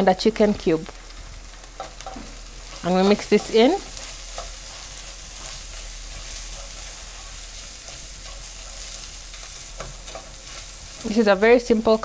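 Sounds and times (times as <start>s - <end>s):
paste sizzling in a frying pan: 0.0s - 12.0s.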